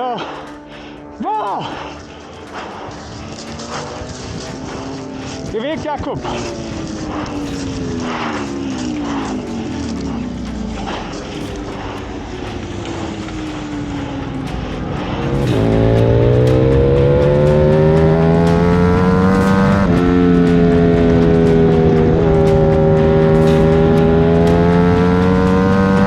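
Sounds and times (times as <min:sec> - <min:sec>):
motorcycle engine accelerating: 0:00.0 - 0:26.0
wind rush: 0:01.6 - 0:22.8.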